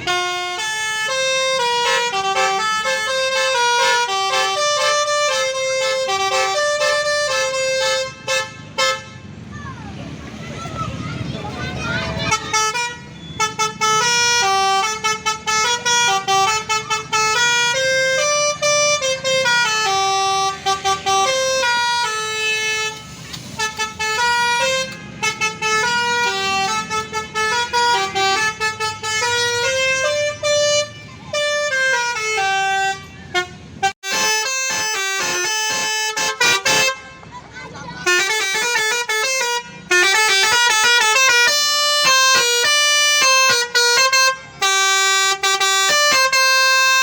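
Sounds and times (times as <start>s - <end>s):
musical air horn melody: 0.0s - 9.2s, 12.2s - 37.2s, 38.0s - 47.0s.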